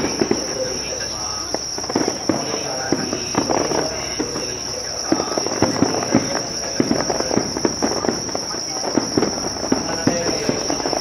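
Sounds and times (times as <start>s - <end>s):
fireworks crackling pops: 0.0s - 11.0s
night insects trilling: 0.0s - 11.0s.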